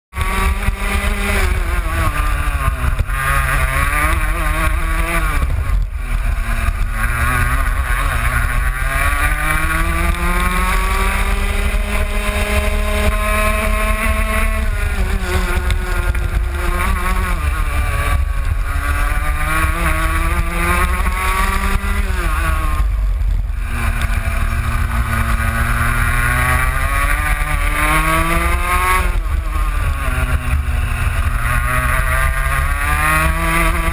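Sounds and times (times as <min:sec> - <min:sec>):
kart engine revving: 0:00.1 - 0:33.9.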